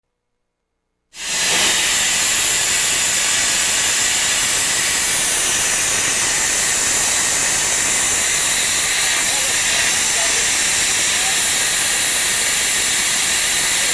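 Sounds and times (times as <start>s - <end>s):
steam hissing: 1.2s - 13.9s.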